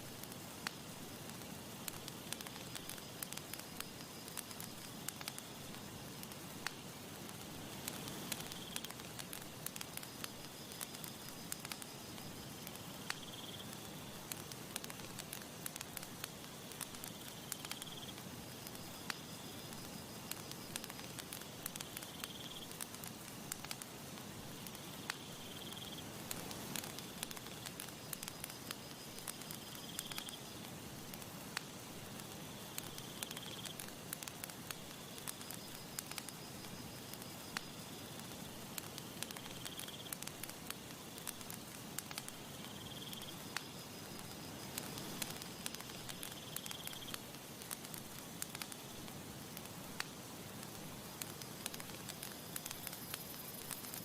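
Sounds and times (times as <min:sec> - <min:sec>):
campfire crackling and popping: 0:00.0 - 0:54.0
soft hiss: 0:00.0 - 0:54.0.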